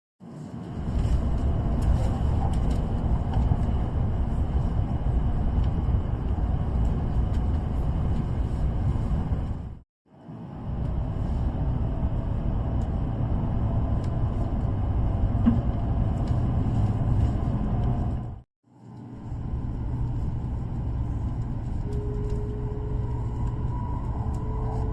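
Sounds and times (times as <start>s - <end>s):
train running rumble: 0.2s - 9.8s, 10.4s - 24.9s.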